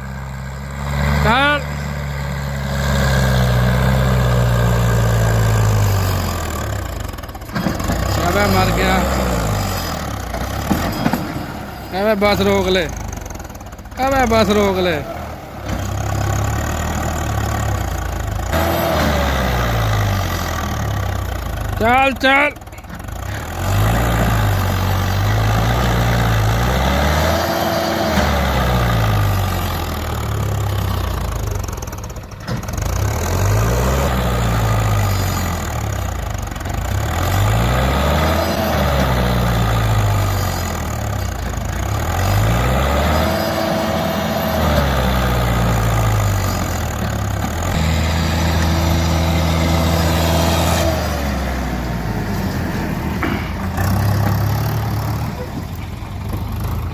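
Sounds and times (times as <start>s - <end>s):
tractor diesel engine revving: 0.0s - 56.9s.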